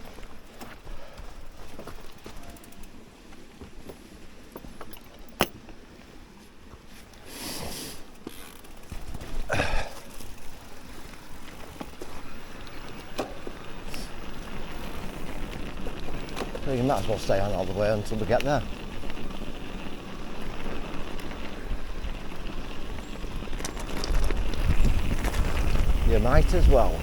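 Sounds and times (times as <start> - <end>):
bike tyres on rough trail: 0.0 - 27.0.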